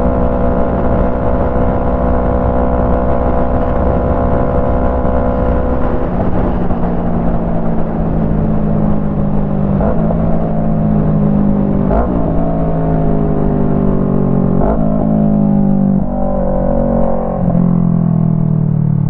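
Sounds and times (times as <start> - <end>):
motorcycle engine riding: 0.0 - 19.0.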